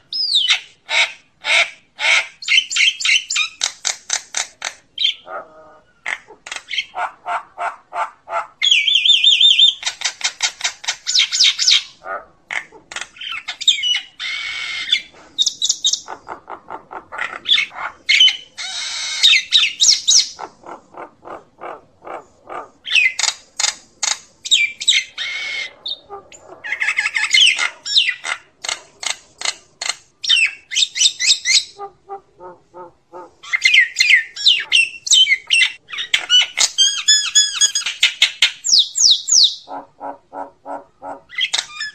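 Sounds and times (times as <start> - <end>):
myna bird calling: 0.0 - 41.9.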